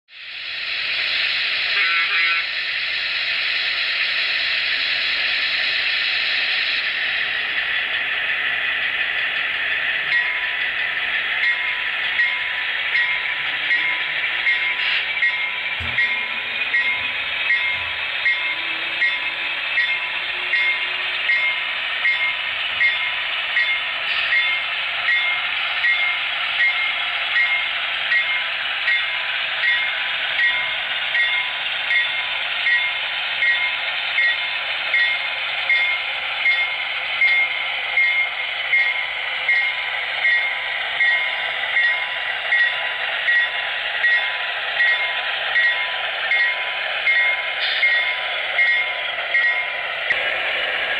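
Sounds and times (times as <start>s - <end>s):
model train rolling: 0.2s - 50.9s.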